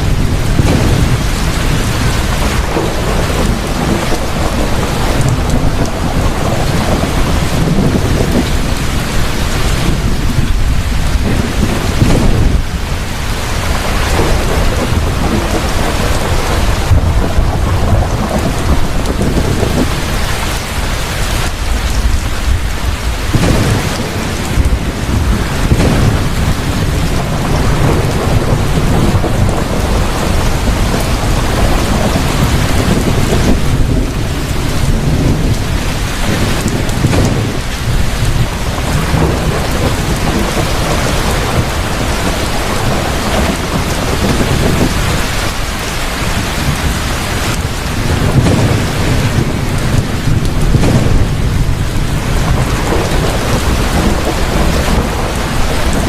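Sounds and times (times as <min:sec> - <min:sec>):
deep thunder rumbling: 0:00.0 - 0:56.0
heavy rain pouring: 0:00.0 - 0:56.0.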